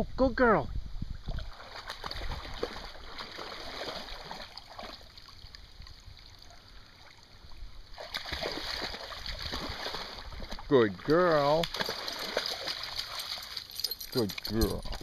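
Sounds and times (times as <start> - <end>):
dog splashing through water: 1.2 - 6.6, 7.9 - 15.0.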